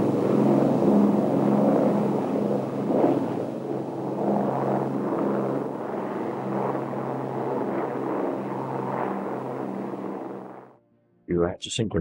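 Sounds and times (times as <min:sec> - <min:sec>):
aircraft piston engines droning: 0:00.0 - 0:10.7.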